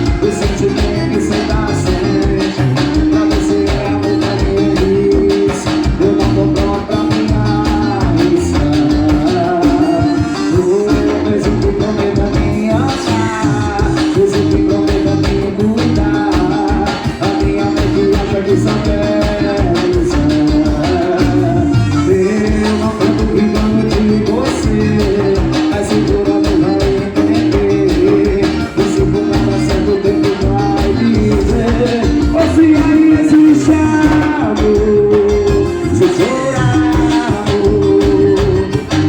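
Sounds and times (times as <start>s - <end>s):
forro music with driving beat: 0.0s - 39.0s.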